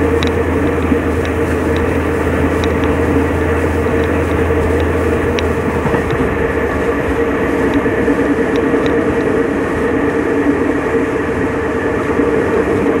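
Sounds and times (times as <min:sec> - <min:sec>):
diesel locomotive engine droning: 0:00.0 - 0:13.0
train rolling noise: 0:00.0 - 0:13.0.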